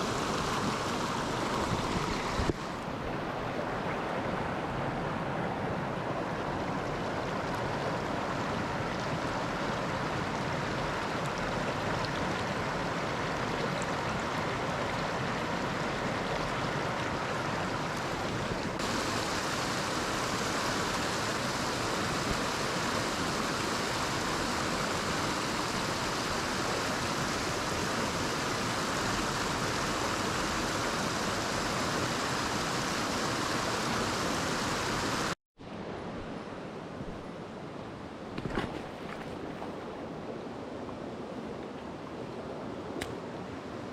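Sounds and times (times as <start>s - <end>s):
stream rushing over rocks: 0.0s - 35.4s.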